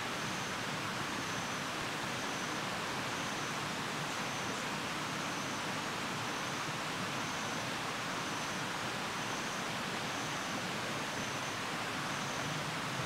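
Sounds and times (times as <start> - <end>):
rainforest hiss: 0.0 - 13.0.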